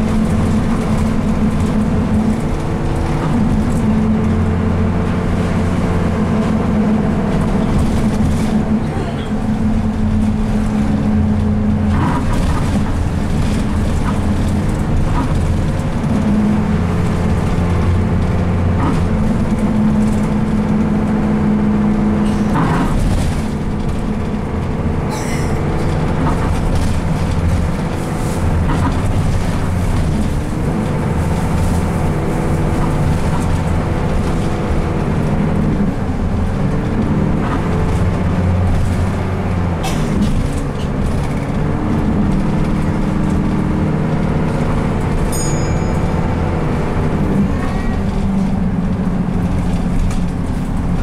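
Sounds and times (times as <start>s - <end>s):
body rattles and knocks: 0.0s - 21.4s, 22.1s - 51.0s
bus engine running: 0.0s - 51.0s.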